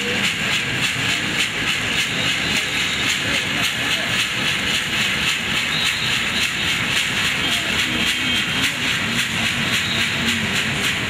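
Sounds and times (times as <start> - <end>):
gourd rattle shaken: 0.0 - 11.0.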